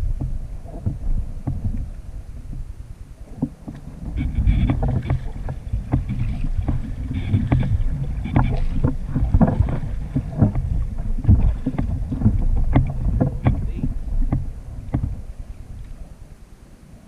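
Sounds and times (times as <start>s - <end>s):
paddle splashing in water: 0.0s - 16.4s
wind rumble on microphone: 0.0s - 17.0s.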